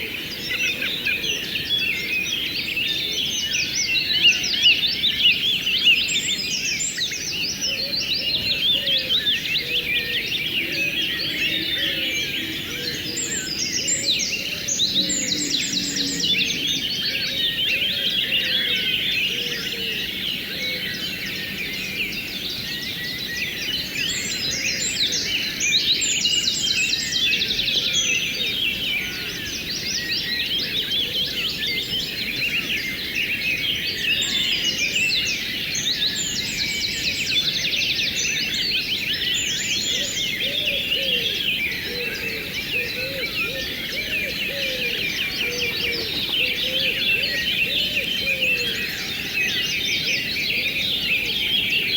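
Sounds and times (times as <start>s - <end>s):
birds chirping and trilling: 0.0s - 51.9s.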